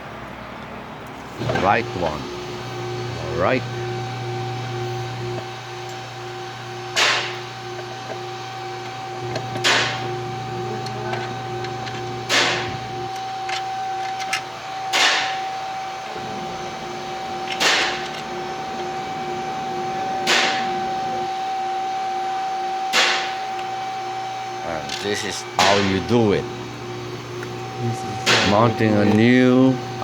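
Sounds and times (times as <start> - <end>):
electrical hum: 1.2 - 30.0.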